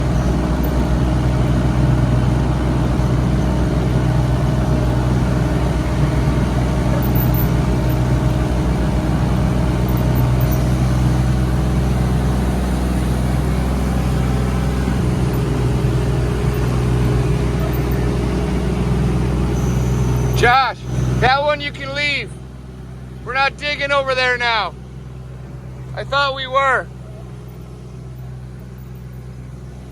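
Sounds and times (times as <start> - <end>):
engine running steadily: 0.0 - 29.9.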